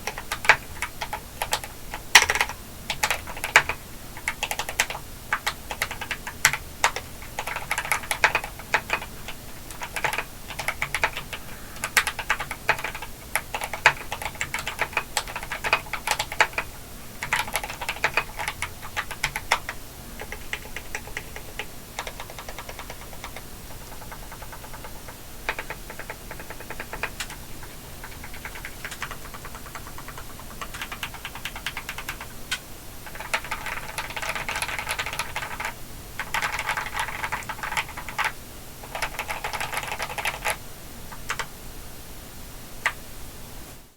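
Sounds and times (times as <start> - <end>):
mechanical keyboard typing: 0.0 - 41.5.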